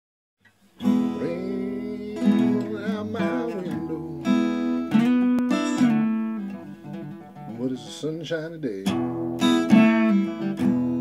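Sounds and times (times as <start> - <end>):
acoustic blues guitar: 0.4 - 11.0.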